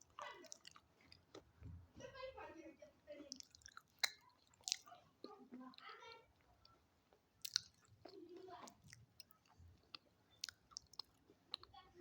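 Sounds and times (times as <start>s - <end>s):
crunchy food being chewed: 0.0s - 1.6s, 3.2s - 12.0s.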